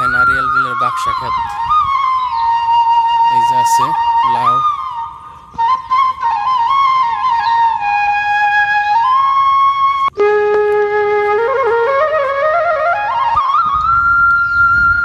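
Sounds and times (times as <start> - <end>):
solo flute melody: 0.0 - 15.0.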